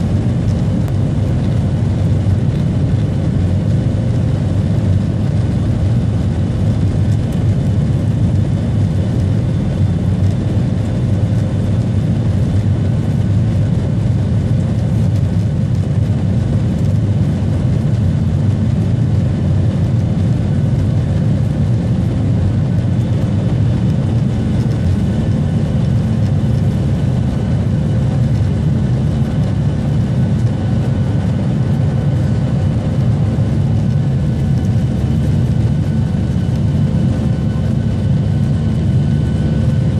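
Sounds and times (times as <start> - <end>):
faint engine whine: 0.0 - 39.9
jet engines rumbling: 0.0 - 39.9.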